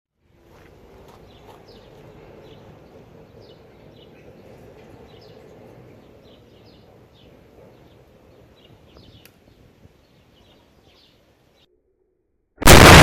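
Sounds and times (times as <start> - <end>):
small birds chirping: 0.6 - 11.7.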